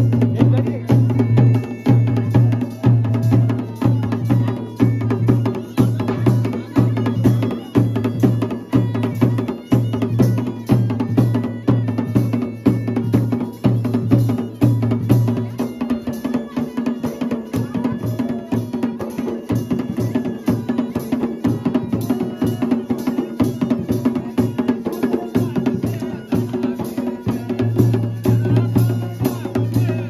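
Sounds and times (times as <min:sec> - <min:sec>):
bagpipe melody: 0:00.0 - 0:30.0
dhol drumming: 0:00.0 - 0:30.0.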